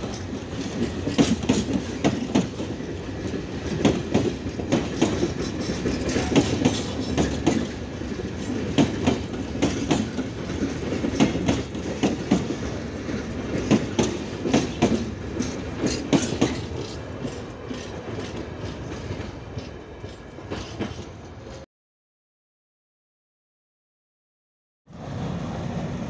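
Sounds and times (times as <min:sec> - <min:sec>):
wheels clacking over rail joints: 0:00.0 - 0:21.2
train rumble: 0:00.0 - 0:21.6, 0:24.9 - 0:26.0.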